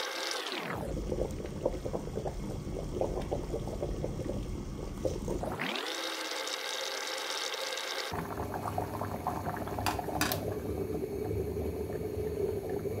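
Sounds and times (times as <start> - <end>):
curry bubbling in a pot: 0.0 - 6.4, 7.0 - 13.0.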